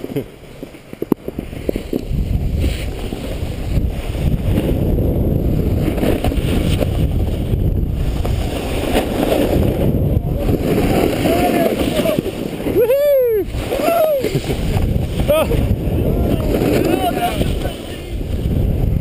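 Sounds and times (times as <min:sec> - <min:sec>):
snowboard scraping over snow: 0:00.0 - 0:19.0
wind rushing over microphone: 0:01.0 - 0:19.0.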